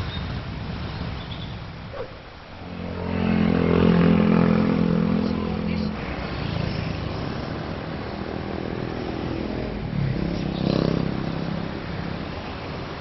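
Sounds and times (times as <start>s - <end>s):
engine rumbling: 1.7s - 13.0s.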